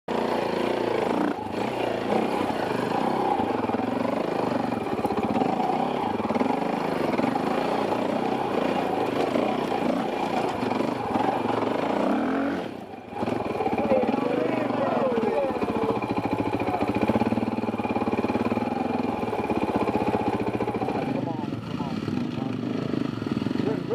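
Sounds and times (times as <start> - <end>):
dirt bike engine revving: 0.1 - 23.9.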